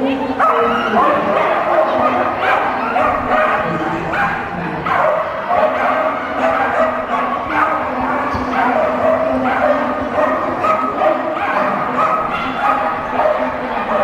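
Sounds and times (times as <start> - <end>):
dog yipping and barking: 0.4 - 14.0.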